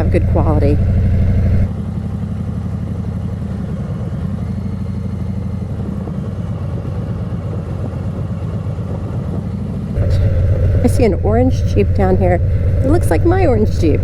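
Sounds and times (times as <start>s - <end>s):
motorcycle engine running: 0.0s - 9.2s, 10.0s - 14.0s.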